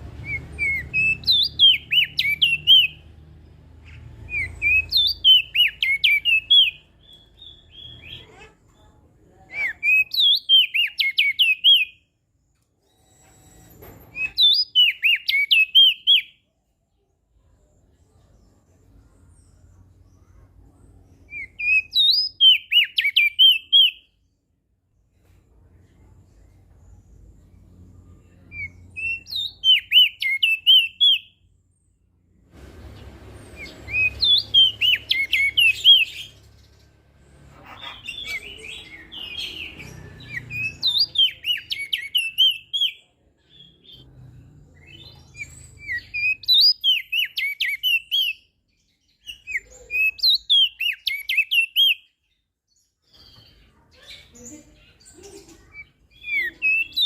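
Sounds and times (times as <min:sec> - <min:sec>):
bird singing warbling chirps: 0:00.1 - 0:12.1, 0:14.2 - 0:16.4, 0:17.7 - 0:24.4, 0:26.7 - 0:31.7, 0:33.6 - 0:44.0, 0:44.8 - 0:57.0.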